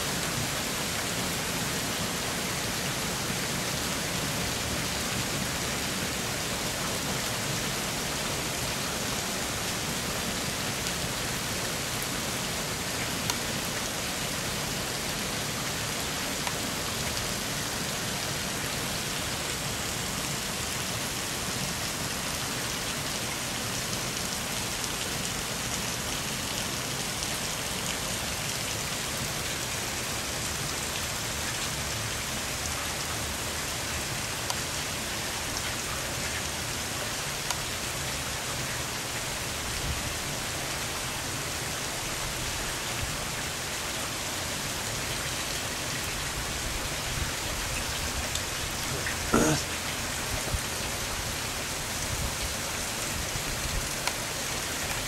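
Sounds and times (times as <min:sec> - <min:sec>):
floodwater rushing down a street: 0:00.0 - 0:55.0.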